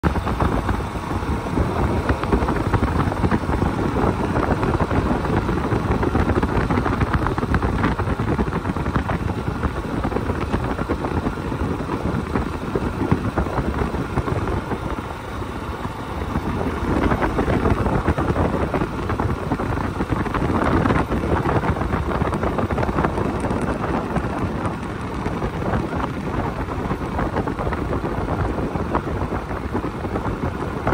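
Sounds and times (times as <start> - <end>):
motorcycle engine running: 0.0 - 30.9
wind rushing over microphone: 0.0 - 30.9.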